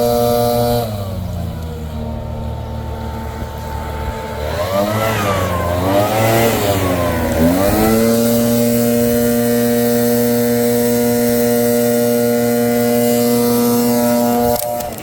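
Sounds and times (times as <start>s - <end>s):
leaf blower running: 0.0s - 15.0s.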